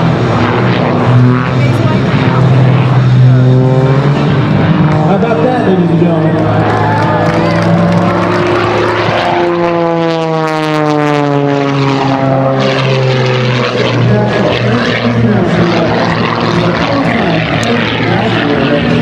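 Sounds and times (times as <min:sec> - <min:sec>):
propeller plane engine: 0:00.0 - 0:19.0.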